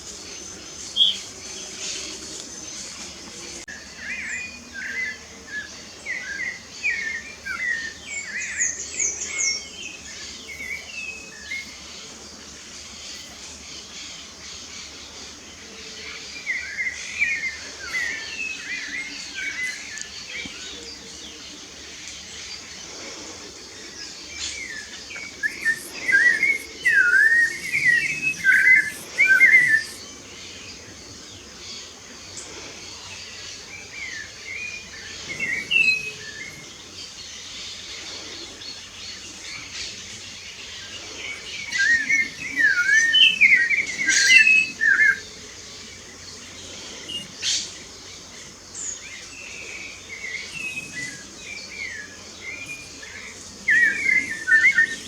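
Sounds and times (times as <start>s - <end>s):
faint outdoor background: 0.0s - 55.0s
songbird singing: 0.0s - 55.0s.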